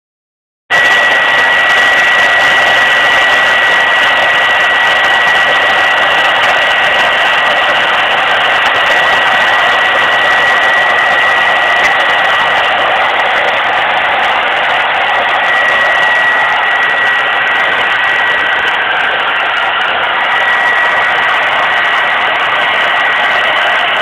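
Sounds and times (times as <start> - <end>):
hair dryer blowing: 0.7 - 24.0.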